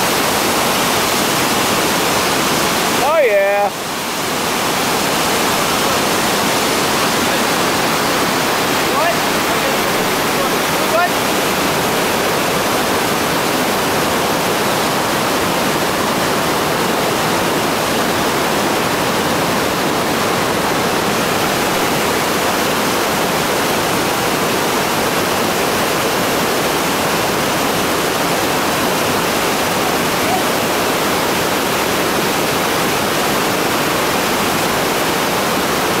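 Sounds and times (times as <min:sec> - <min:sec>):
whitewater rapid rushing: 0:00.0 - 0:36.0.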